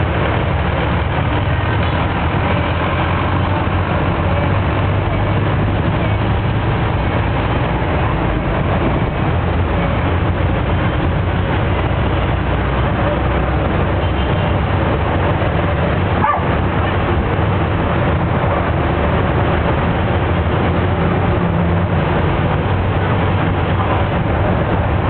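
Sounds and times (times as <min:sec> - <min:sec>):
road noise: 0:00.0 - 0:25.0
vehicle engine drone: 0:00.0 - 0:25.0.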